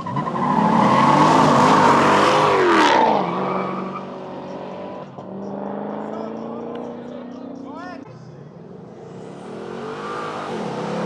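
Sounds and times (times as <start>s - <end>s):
race cars passing at full throttle: 0.0s - 11.0s.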